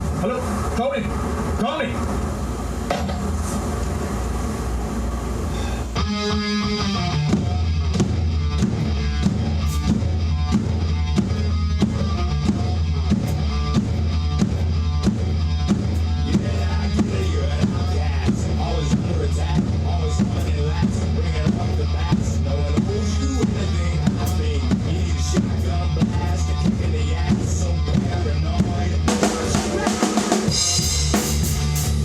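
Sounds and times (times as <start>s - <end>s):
bass guitar: 0.0s - 32.0s
distorted electric guitars: 0.0s - 32.0s
drum kit steady beat: 5.5s - 32.0s.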